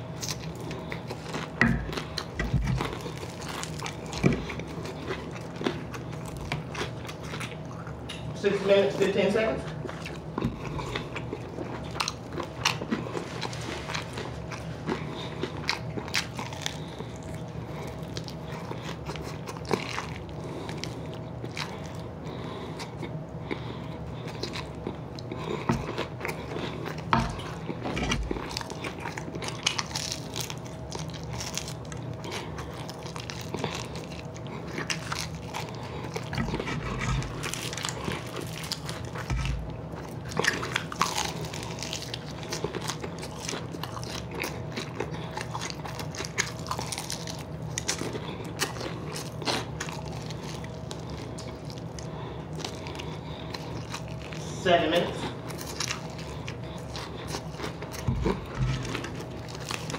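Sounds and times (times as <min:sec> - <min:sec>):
crunching fried chicken: 0:00.0 - 0:59.9.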